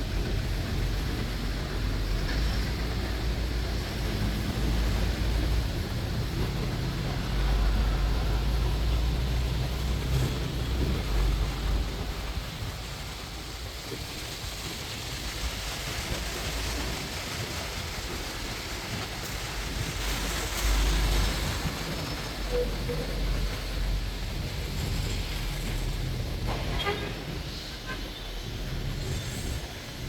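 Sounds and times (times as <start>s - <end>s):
bus engine rumble: 0.0s - 30.0s
rain hissing: 0.0s - 30.0s.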